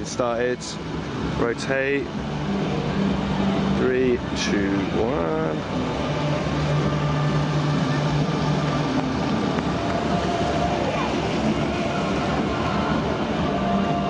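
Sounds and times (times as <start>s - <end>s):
traffic din: 0.0s - 14.0s
crowd of people: 2.2s - 14.0s.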